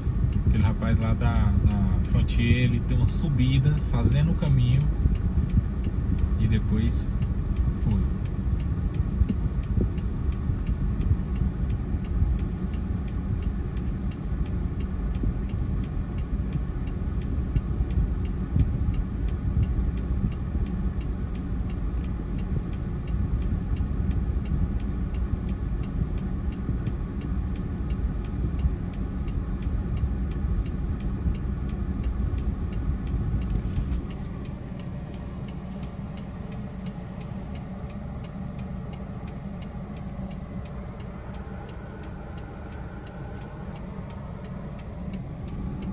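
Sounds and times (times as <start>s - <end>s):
vehicle engine rumbling: 0.0s - 45.9s.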